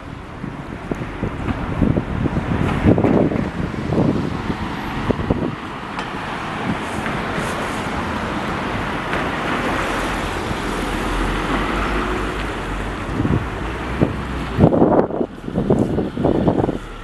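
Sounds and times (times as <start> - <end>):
heavy vehicle rumble: 0.0 - 17.0
road traffic rushing: 0.0 - 17.0.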